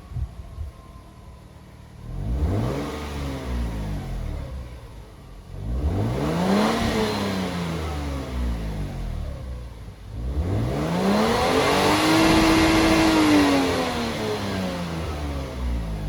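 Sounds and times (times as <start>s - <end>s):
car exhaust revving: 2.0s - 16.0s.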